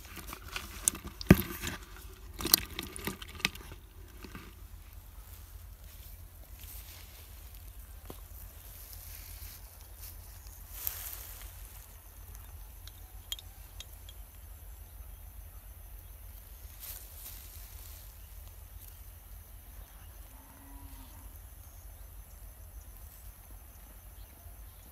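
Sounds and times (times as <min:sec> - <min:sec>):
insect chirring: 0:00.0 - 0:24.9.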